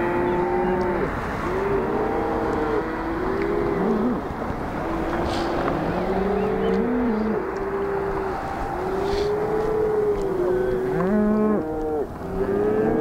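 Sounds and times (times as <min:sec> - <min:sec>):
car passing on highway: 0:00.0 - 0:11.1
cattle mooing: 0:00.0 - 0:13.0.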